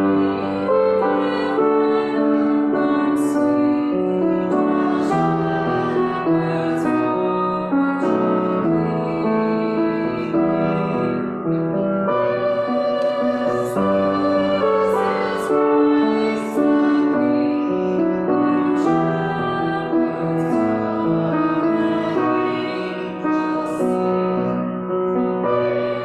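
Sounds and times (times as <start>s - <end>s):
woman singing a carol: 0.0s - 11.4s, 12.1s - 24.6s, 25.2s - 26.0s
grand piano accompaniment: 0.0s - 26.0s.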